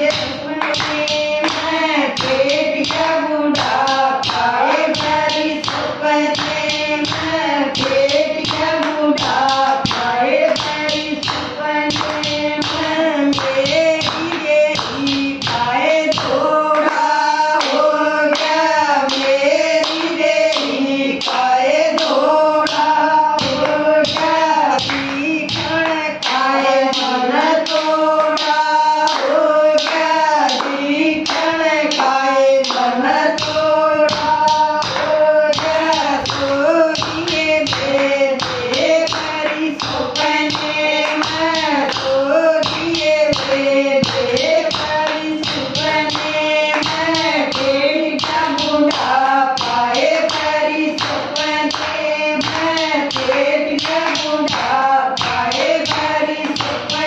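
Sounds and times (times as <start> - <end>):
rhythmic hand clapping: 0.0 - 57.0
women singing together: 0.0 - 57.0.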